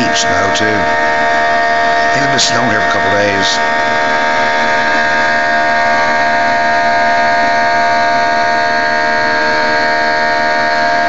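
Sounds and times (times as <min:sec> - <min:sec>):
airliner engine drone: 0:00.0 - 0:11.0
engine whine: 0:00.0 - 0:11.0.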